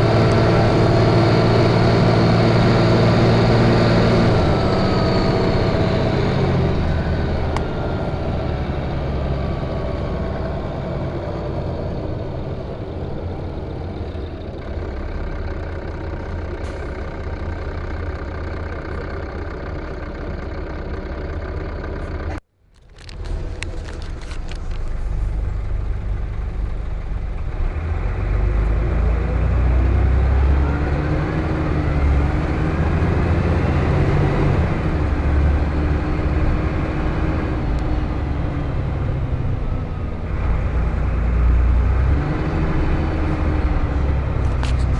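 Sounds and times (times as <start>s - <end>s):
bus engine droning: 0.0s - 44.9s.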